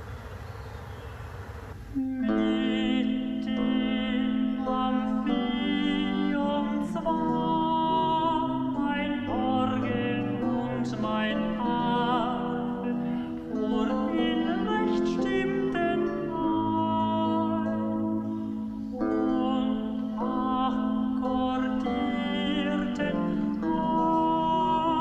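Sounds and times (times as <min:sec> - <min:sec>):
slow music of long held notes: 0:01.9 - 0:25.0.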